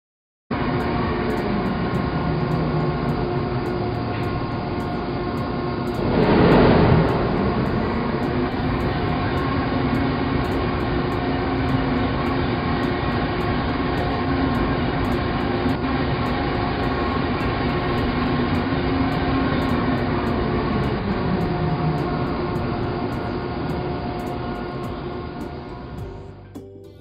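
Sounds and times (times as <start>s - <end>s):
humming tones: 0.5s - 26.5s
heavy vehicle engine rumble: 0.6s - 26.6s.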